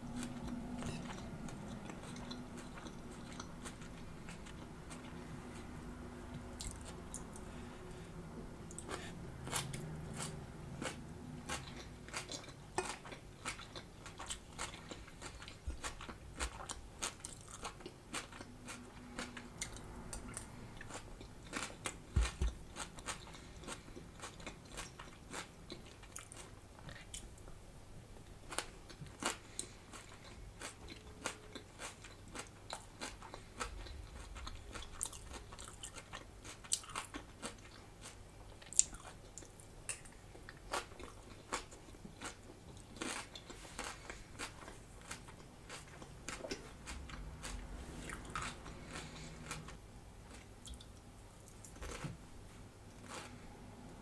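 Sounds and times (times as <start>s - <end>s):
chewing crunchy salad: 0.0s - 8.0s, 8.7s - 27.4s, 28.4s - 52.2s, 52.9s - 53.7s.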